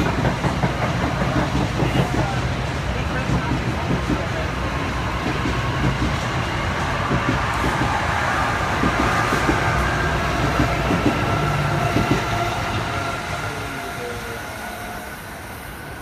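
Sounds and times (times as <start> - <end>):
train wheels clicking over joints: 0.0 - 14.2
electric train passing: 0.0 - 16.0.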